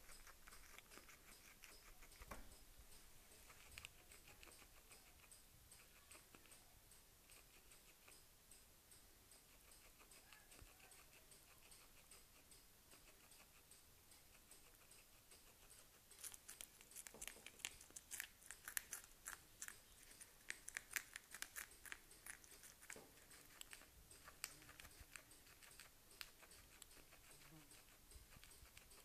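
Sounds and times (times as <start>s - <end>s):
guinea pig crunching rind: 0.0s - 2.4s, 3.4s - 8.2s, 9.4s - 29.0s.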